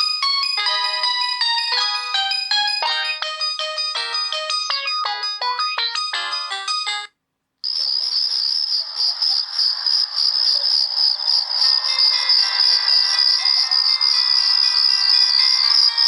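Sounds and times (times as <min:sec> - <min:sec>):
high pulsing ringtone trill: 0:00.0 - 0:07.1, 0:07.7 - 0:16.0
phone ringtone melody: 0:00.0 - 0:07.1, 0:07.8 - 0:16.0.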